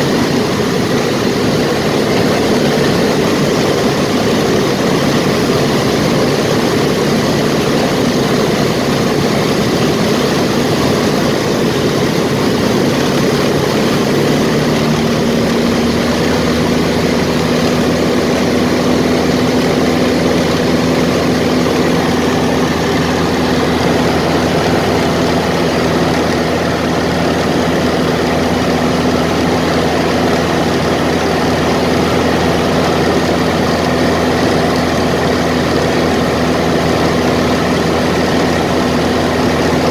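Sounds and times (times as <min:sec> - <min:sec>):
propeller aircraft engine in flight: 0:00.0 - 0:39.9.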